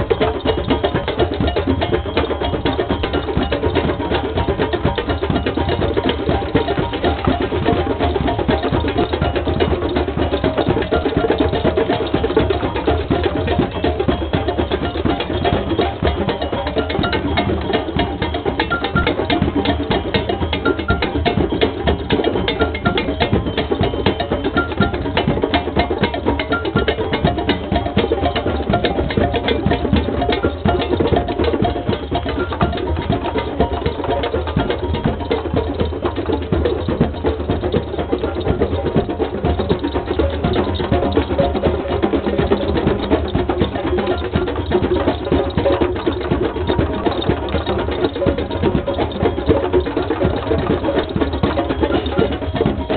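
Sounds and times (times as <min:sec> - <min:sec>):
hand drums playing a steady rhythm: 0:00.0 - 0:52.9
wood-block-like clicks: 0:04.8 - 0:52.9.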